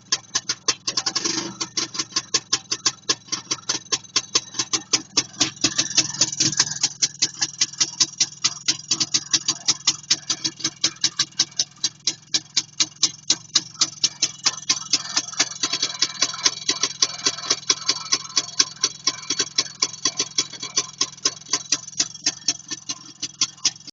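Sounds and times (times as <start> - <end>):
two-stroke motorcycle engine popping: 0.0 - 23.9.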